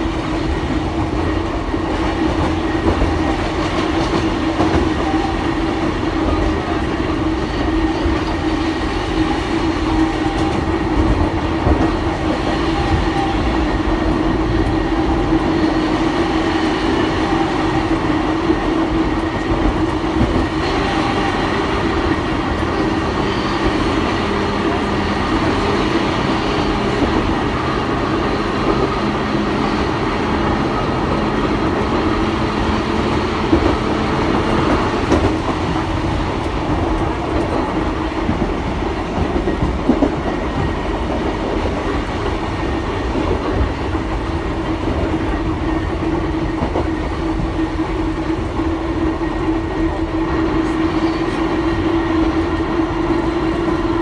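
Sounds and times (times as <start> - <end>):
electric railcar running: 0.0 - 54.0.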